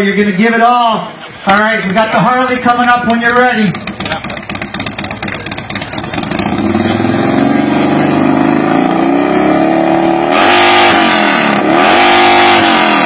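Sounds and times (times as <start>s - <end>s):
motorcycle engine revving: 1.6s - 13.0s.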